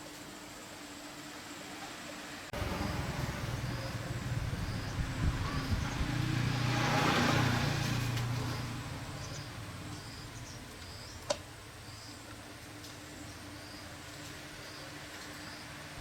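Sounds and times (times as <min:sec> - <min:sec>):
insects chirping: 0:02.5 - 0:16.0
vehicle engine hum: 0:02.5 - 0:16.0.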